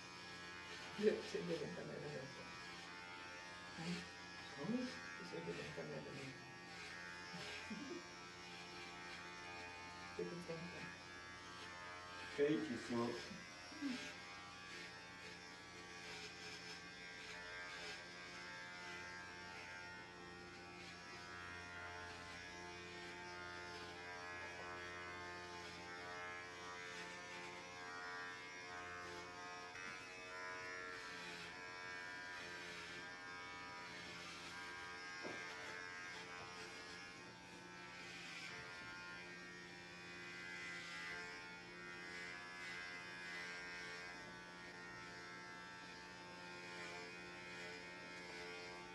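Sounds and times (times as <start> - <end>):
electric hair clippers buzzing: 0.0 - 48.9.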